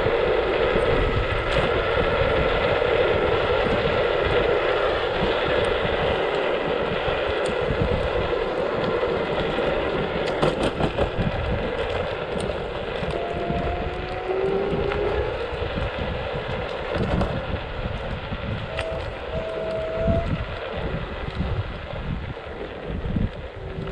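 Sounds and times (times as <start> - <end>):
scooter engine: 0.0 - 23.9
thin rising whine: 0.0 - 23.9
wind buffeting microphone: 0.0 - 23.9.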